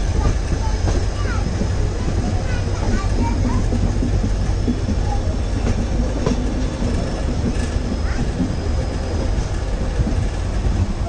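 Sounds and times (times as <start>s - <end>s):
sharp clicks of train wheels: 0.0s - 11.0s
train wheels rumbling: 0.0s - 11.0s.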